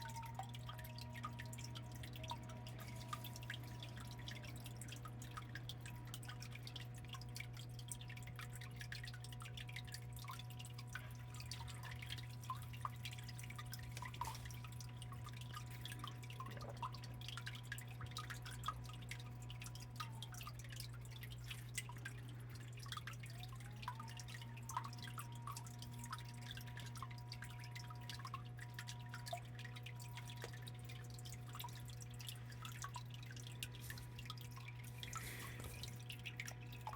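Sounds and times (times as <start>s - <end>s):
steady low hum: 0.0s - 36.9s
water dripping and trickling: 0.0s - 36.9s.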